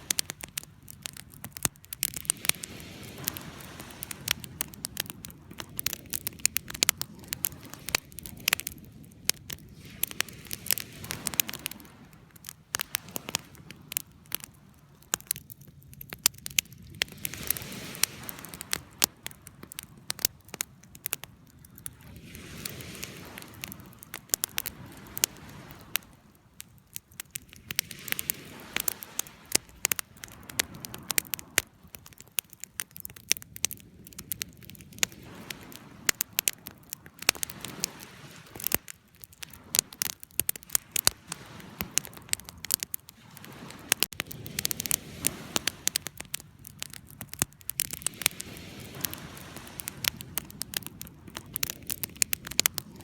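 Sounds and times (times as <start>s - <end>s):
low flame hiss: 0.0s - 53.0s
wood fire crackling and popping: 0.0s - 53.0s.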